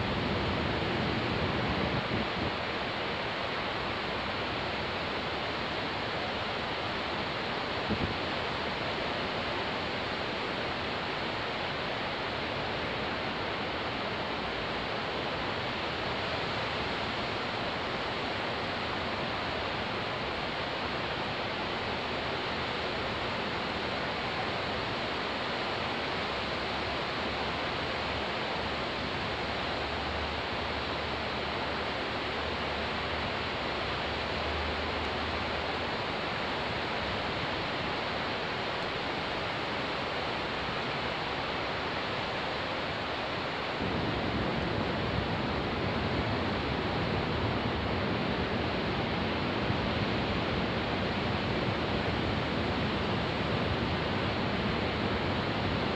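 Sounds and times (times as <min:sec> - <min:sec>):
surf waves washing: 0:00.0 - 0:55.9.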